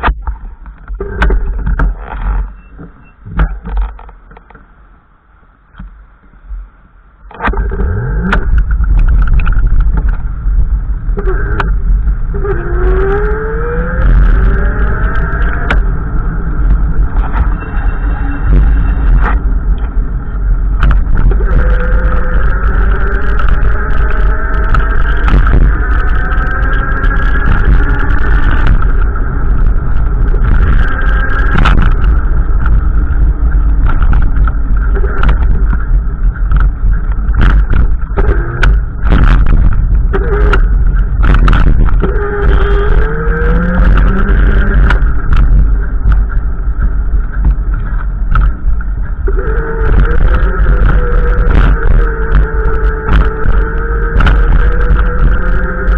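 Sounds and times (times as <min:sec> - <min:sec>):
wind buffeting microphone: 0:06.4 - 0:55.9.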